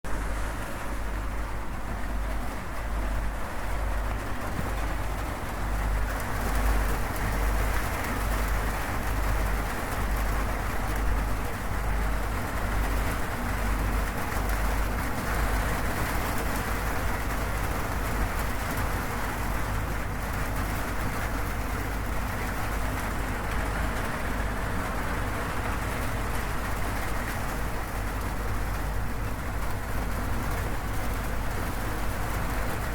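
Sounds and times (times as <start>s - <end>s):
heavy rain on a metal roof: 0.1s - 32.9s.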